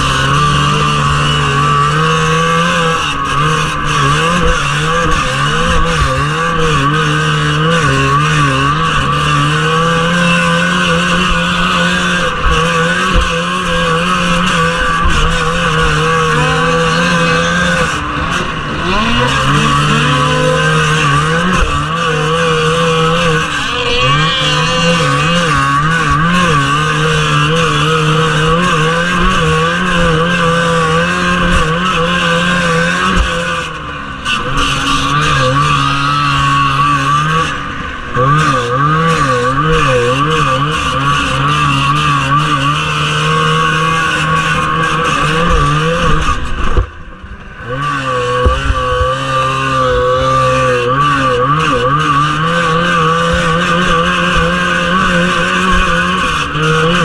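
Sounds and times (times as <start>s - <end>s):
snowmobile engine revving high: 0.0s - 57.0s.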